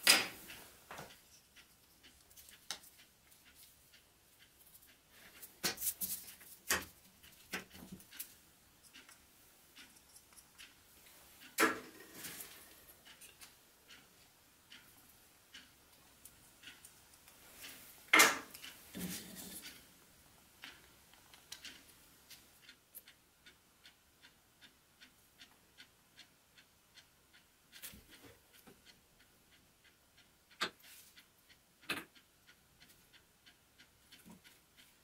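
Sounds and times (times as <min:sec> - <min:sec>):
steady ticking: 0:00.0 - 0:35.0.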